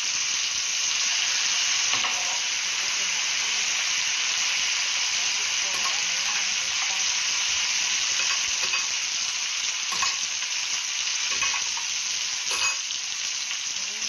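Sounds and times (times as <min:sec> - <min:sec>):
eggplant frying in bubbling oil: 0:00.0 - 0:14.0.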